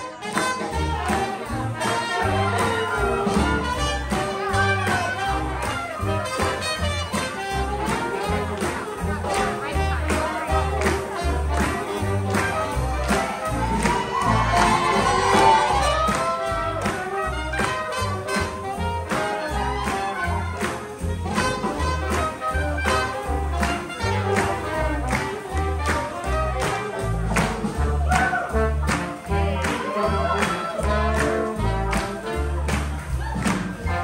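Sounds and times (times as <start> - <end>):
swing band playing: 0.0 - 34.0.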